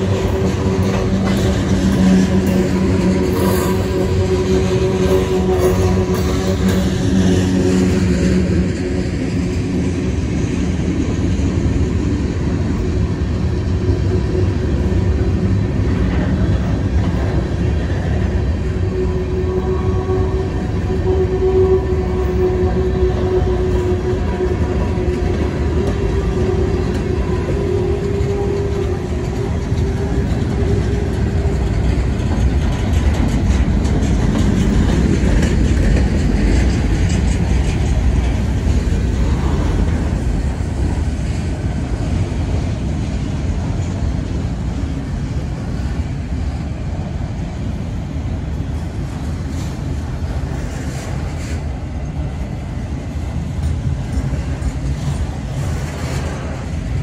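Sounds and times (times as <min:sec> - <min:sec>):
rail joint clicks and clanks: 0:00.0 - 0:57.0
train wheels rumbling on rails: 0:00.0 - 0:57.0.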